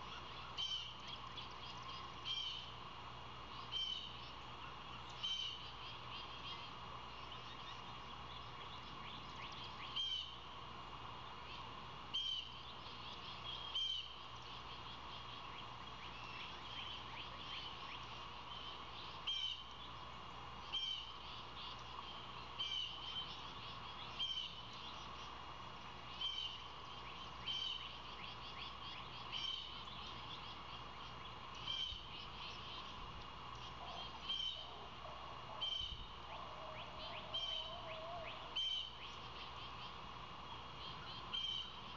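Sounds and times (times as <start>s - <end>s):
small bird calling: 0.0s - 2.8s, 3.4s - 10.5s, 11.1s - 41.9s
high-pitched background hum: 0.0s - 41.9s.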